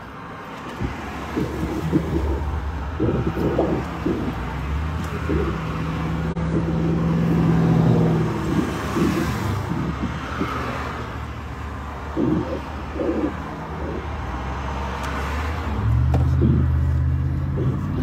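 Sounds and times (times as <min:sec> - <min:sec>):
car engine hum inside cabin: 0:00.0 - 0:18.0
road noise: 0:00.0 - 0:18.0.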